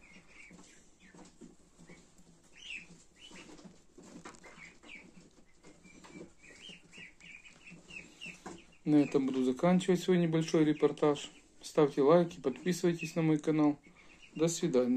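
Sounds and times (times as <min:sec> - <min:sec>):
ducklings peeping: 0:00.0 - 0:14.9.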